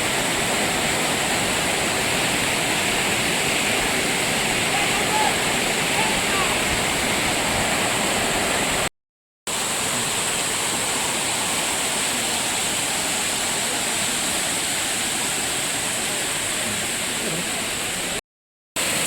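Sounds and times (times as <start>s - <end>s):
waterfall rushing: 0.0s - 8.9s, 9.5s - 18.2s, 18.8s - 19.0s.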